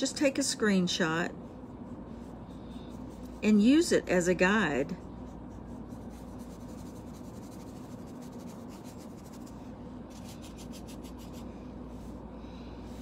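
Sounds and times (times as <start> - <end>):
paintbrush scratching on canvas: 0.3 - 12.2.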